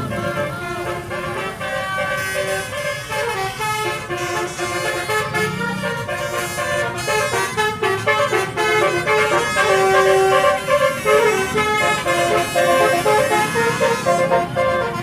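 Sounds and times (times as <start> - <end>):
bus musical horn playing a tune: 0.0 - 15.0.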